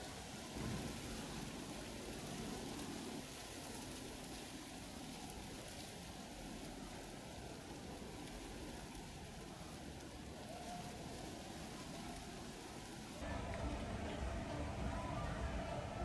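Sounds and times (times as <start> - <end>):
even outdoor hiss: 0.0 - 16.0.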